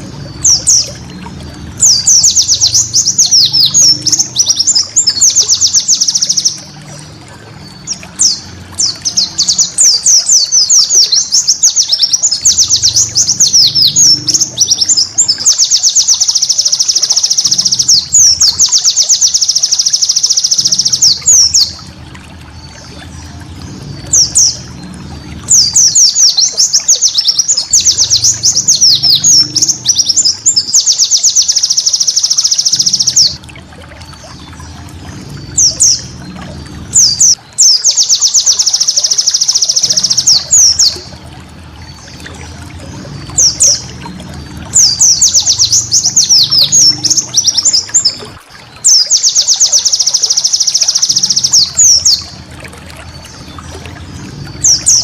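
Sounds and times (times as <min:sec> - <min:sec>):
bird singing rapid trills: 0:00.0 - 0:33.4, 0:34.0 - 0:55.0.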